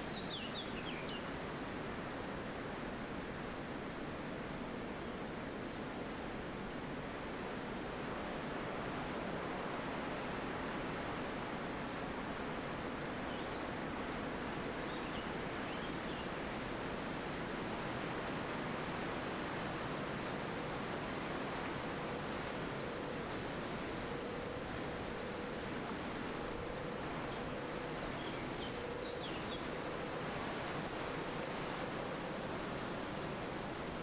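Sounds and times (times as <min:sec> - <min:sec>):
wind rushing through trees: 0:00.0 - 0:34.0.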